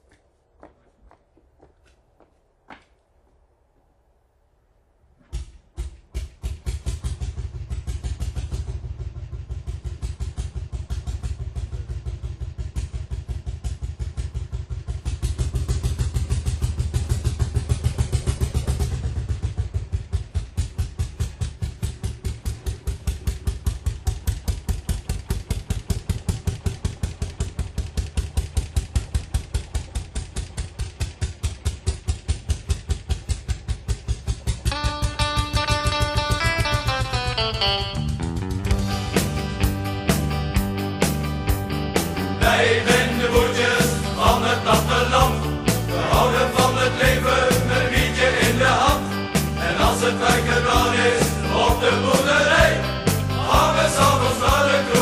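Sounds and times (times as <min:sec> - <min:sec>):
engine running: 0:05.8 - 0:55.0.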